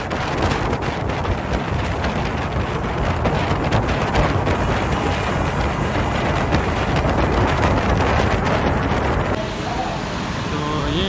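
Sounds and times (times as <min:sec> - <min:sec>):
vehicle noise: 0:00.0 - 0:11.0
wind buffeting microphone: 0:00.0 - 0:11.0.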